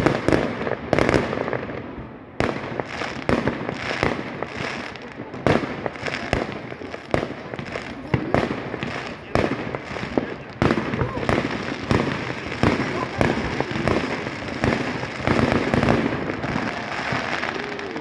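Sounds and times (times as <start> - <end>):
fireworks banging: 0.0 - 18.0
fireworks crackling: 0.0 - 18.0.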